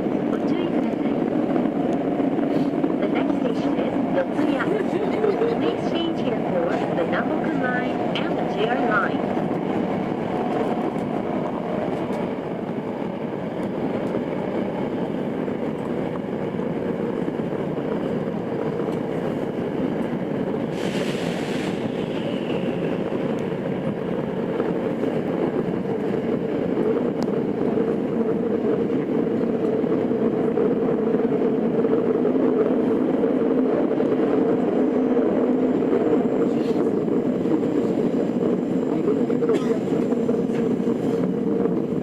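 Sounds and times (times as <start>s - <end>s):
subway wheels rumbling on rails: 0.0s - 42.0s.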